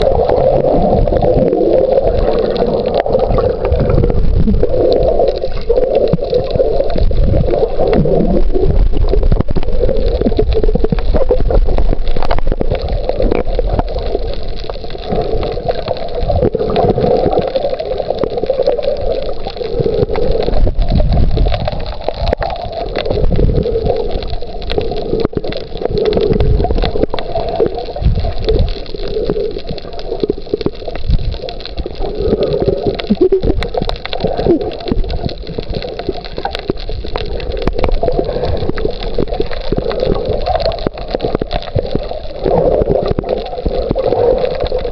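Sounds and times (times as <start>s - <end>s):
underwater rumble: 0.0s - 44.9s
water gurgling: 0.0s - 44.9s.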